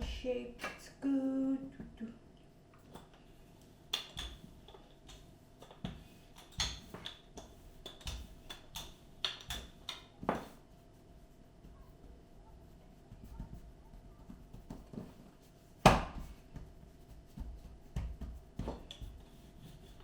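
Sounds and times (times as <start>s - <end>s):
faint steady hum: 0.0s - 20.0s
hands patting dough on a surface: 3.8s - 20.0s.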